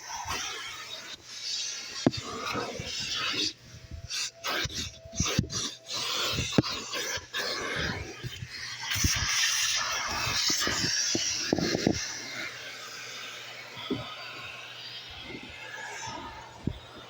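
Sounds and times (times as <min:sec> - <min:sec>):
shop vacuum sucking: 0:00.0 - 0:17.0.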